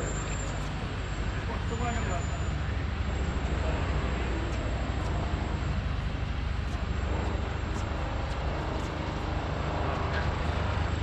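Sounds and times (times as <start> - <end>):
urban background rumble: 0.0 - 11.0.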